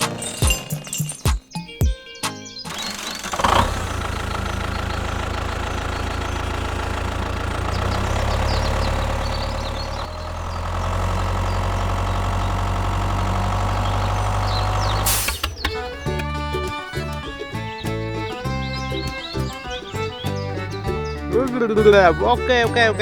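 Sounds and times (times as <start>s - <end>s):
engine running: 2.7s - 23.0s.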